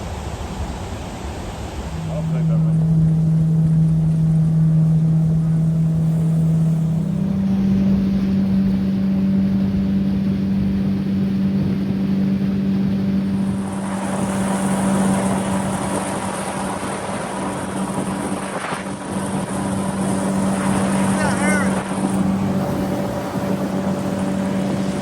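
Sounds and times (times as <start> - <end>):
rush of wind and water: 0.0 - 25.0
boat motor running: 1.8 - 25.0.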